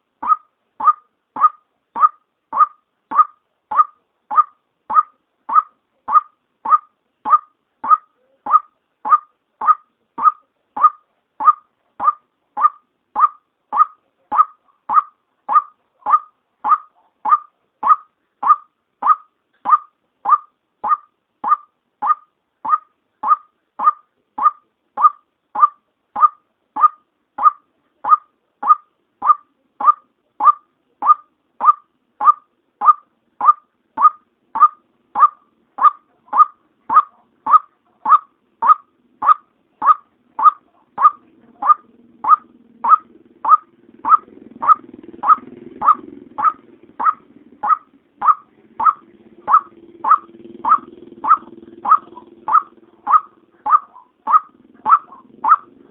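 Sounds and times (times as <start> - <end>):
faint low hum: 0.0 - 55.9
bird call repeated: 0.2 - 55.7.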